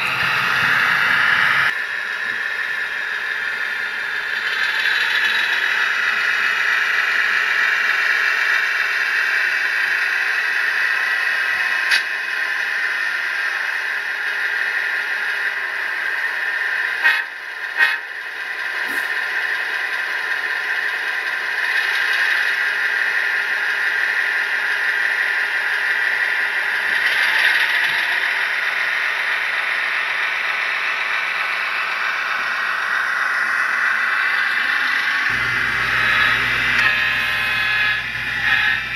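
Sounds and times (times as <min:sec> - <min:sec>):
model locomotive diesel sound: 0:00.0 - 0:38.9.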